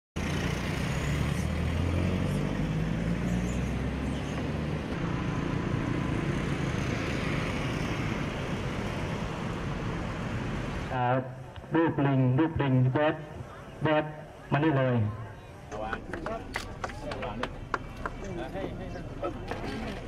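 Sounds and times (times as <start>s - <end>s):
traffic noise: 0.2s - 20.0s.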